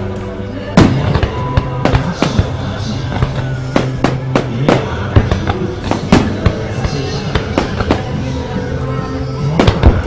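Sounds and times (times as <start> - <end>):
fireworks bangs and pops: 0.8 - 8.5, 9.5 - 10.0.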